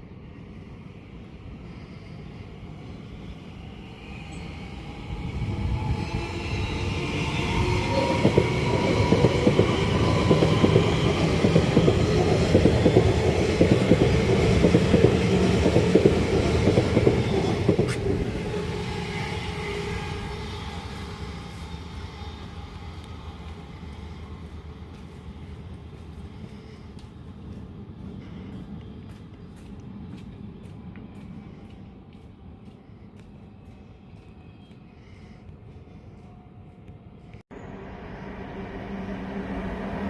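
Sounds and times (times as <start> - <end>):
train passing: 0.0 - 40.0.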